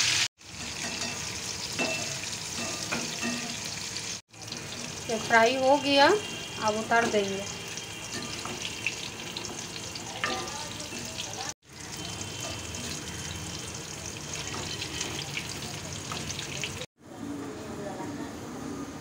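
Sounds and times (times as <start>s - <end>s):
fritters sizzling in hot oil: 0.0s - 16.9s.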